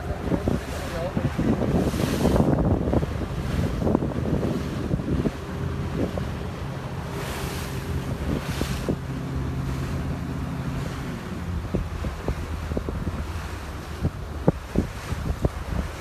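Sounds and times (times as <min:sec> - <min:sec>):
motorboat engine droning: 0:00.0 - 0:16.0
water rushing past hull: 0:00.0 - 0:16.0
wind buffeting microphone: 0:00.0 - 0:16.0.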